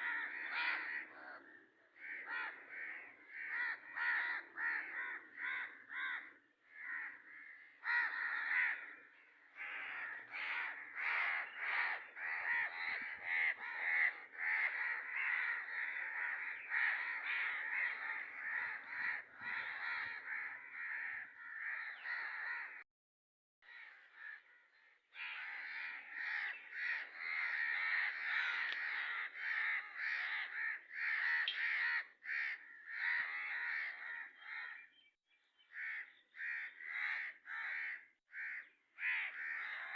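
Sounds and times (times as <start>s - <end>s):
birds calling: 0.0s - 22.8s, 23.7s - 39.9s.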